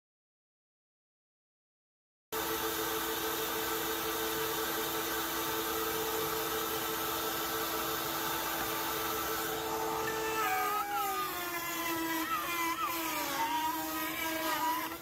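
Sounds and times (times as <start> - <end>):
router motor whining: 2.4 - 15.0.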